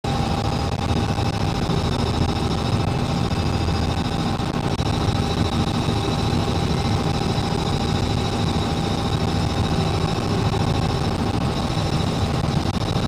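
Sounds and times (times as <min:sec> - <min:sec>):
helicopter turbine whine: 0:00.0 - 0:13.0
helicopter rotor chop: 0:00.1 - 0:13.0.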